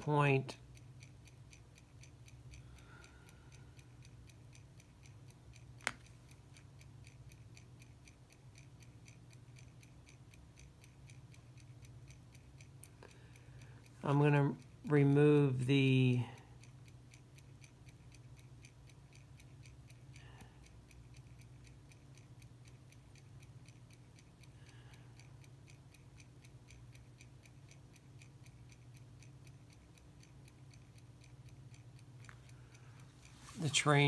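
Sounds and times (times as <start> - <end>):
low steady hum: 0.0 - 34.0
mechanical watch ticking: 0.0 - 34.0.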